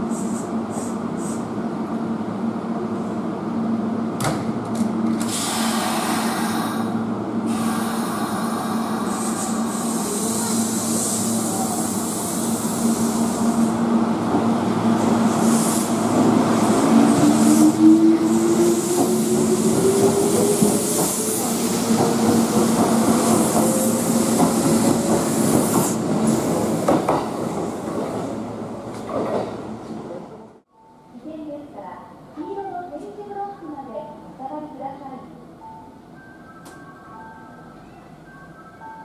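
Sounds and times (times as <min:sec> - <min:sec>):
steady train hum: 0:00.0 - 0:39.0.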